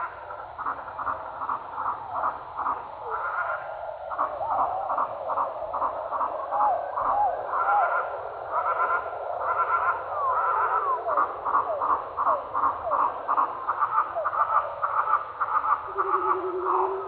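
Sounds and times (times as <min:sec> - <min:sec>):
slowed songbird chorus: 0:00.0 - 0:17.0.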